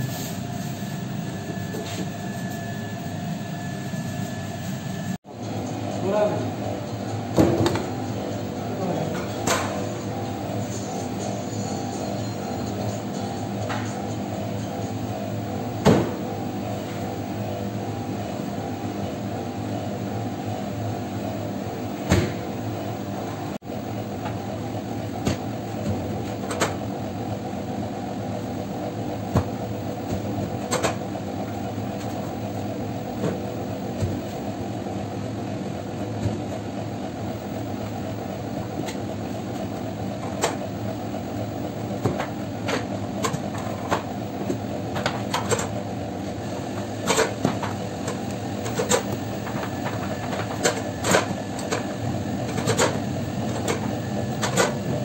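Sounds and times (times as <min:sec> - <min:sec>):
machine electric hum: 0:00.0 - 0:55.0.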